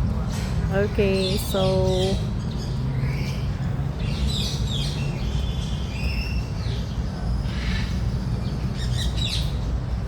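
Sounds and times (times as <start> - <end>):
birds chirping and calling: 0.0 - 10.0.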